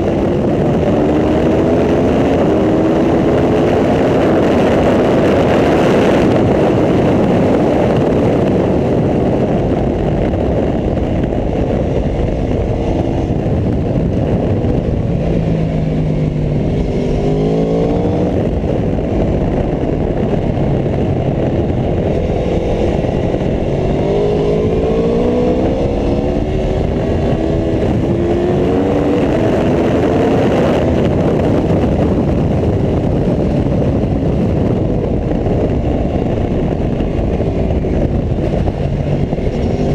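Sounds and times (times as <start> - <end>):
motorcycle engine running hard: 0.0 - 39.9
wind rush on microphone: 0.0 - 39.9.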